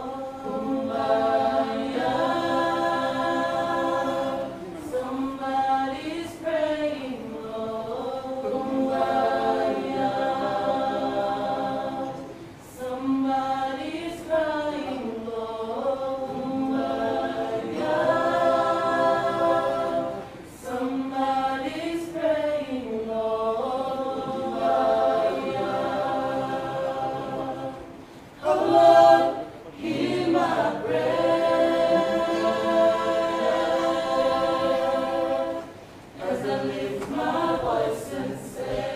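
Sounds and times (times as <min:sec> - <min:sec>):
choir singing unaccompanied: 0:00.0 - 0:38.9.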